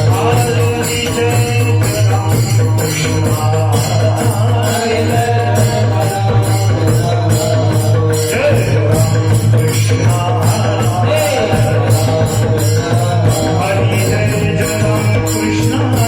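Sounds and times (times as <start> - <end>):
drum accompaniment: 0.0 - 16.0
hand cymbals striking: 0.0 - 16.0
person singing devotional melody: 0.0 - 16.0.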